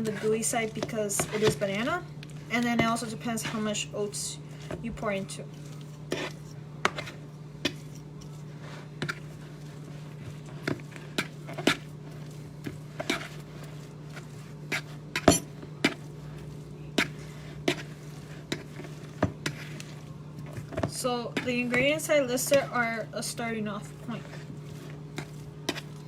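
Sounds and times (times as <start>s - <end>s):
spoon scraping mixing bowl: 0.0s - 26.0s.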